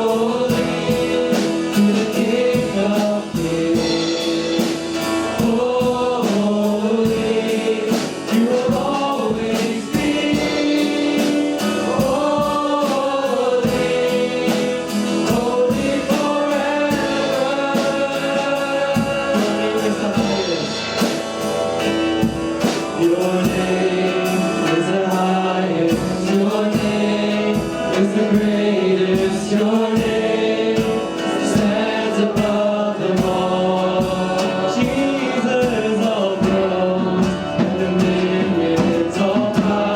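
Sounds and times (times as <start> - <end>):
band accompaniment: 0.0 - 39.9
choir singing: 0.0 - 39.9.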